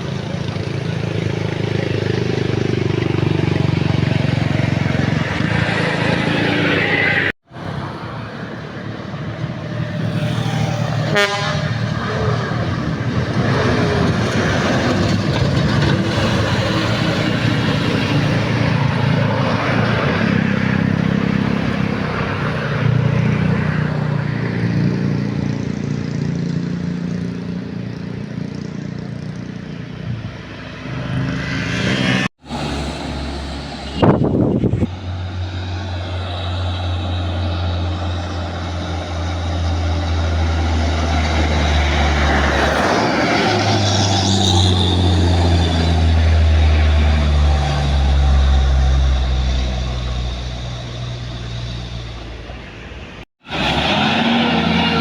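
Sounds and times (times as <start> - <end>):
truck engine running hard uphill: 0.0 - 31.7, 32.4 - 55.0.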